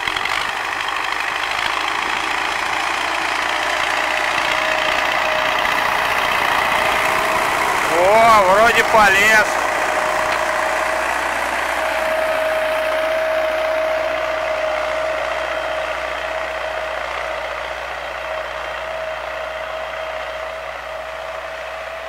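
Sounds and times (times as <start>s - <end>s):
tractor engine whining: 0.0s - 22.0s.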